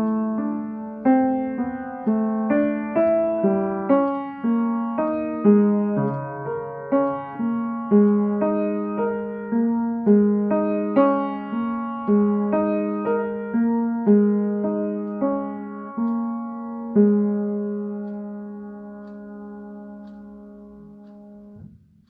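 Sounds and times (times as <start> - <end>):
piano notes and chords: 0.0 - 22.0.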